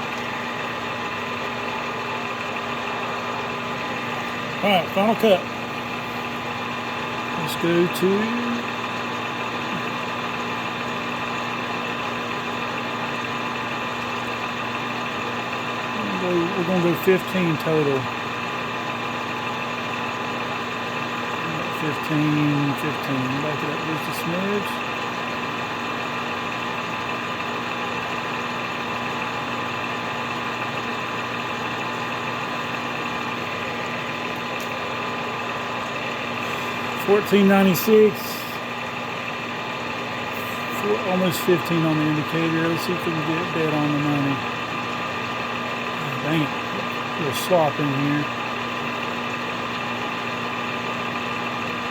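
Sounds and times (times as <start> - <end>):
milling machine running: 0.0 - 51.9.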